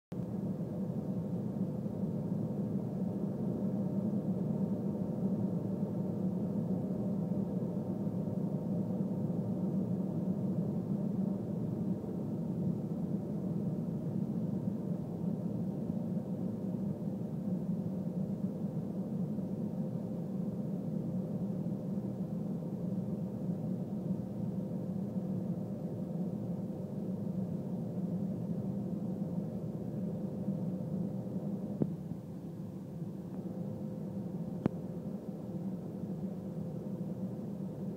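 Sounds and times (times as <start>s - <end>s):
jet engine and airflow drone: 0.1s - 37.9s
thin steady hum: 0.1s - 37.9s.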